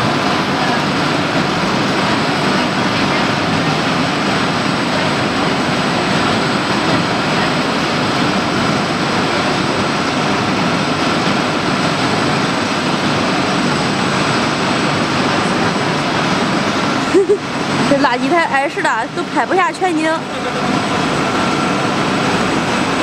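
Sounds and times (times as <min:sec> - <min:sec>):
industrial machinery running: 0:00.0 - 0:23.0.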